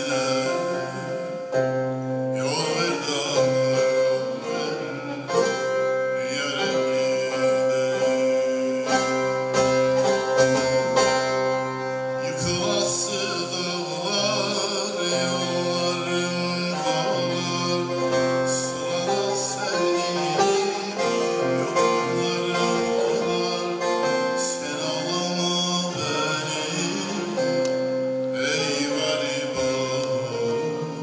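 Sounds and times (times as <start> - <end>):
man singing folk song: 0.0 - 31.0
plucked long-necked lute: 0.0 - 31.0.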